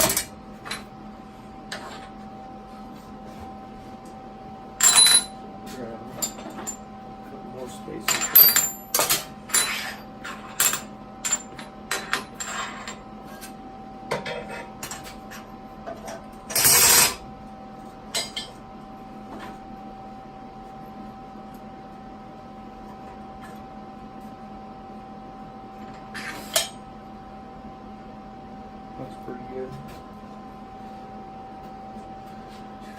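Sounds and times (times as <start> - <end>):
faint hum: 0.0 - 32.9.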